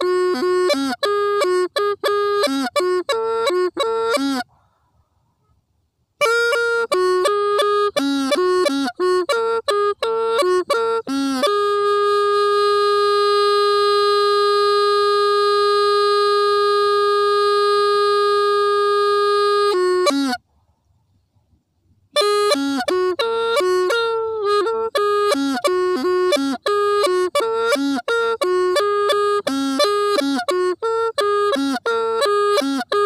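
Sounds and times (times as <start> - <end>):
mournful pipe solo: 0.0 - 4.5, 6.2 - 20.4, 22.2 - 33.0.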